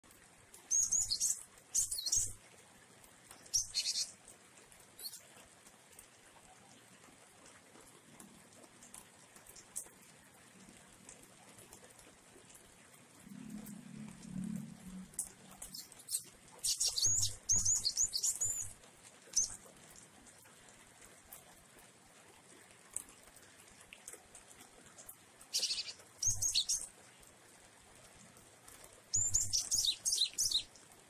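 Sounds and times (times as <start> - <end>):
faint rain hiss: 0.0 - 31.0.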